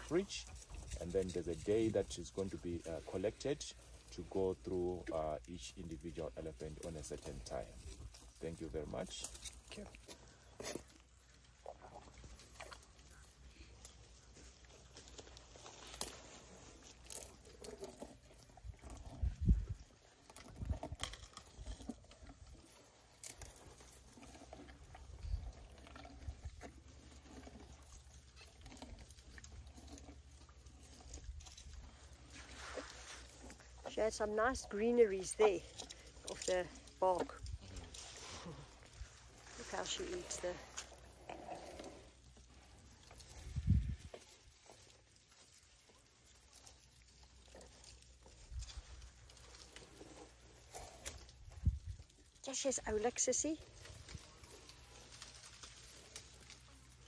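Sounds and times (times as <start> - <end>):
dry grass crackling and rustling: 0.0 - 57.0
elephant chewing and crunching: 0.0 - 57.0.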